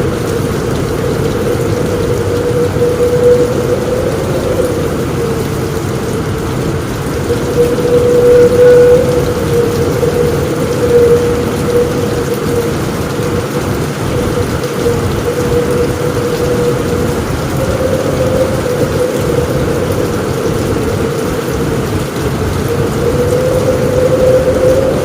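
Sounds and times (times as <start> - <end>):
heavy rain on a roof: 0.0 - 25.0
low rumble of thunder: 0.0 - 25.0.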